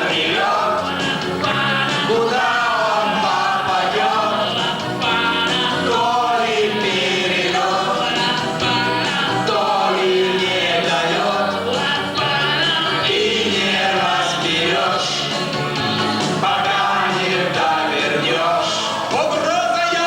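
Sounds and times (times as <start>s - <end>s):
instrumental backing: 0.0s - 19.4s
voices singing together: 0.0s - 19.5s.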